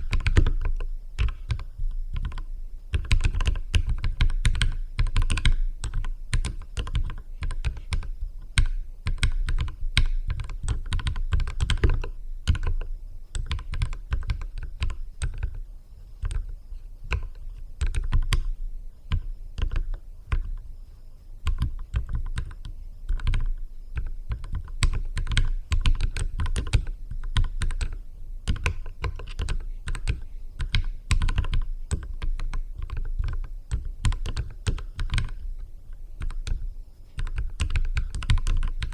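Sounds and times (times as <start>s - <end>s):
mechanical keyboard typing: 0.0s - 15.6s, 17.1s - 18.5s, 19.1s - 20.6s, 21.4s - 35.4s, 36.2s - 36.6s, 37.2s - 38.9s.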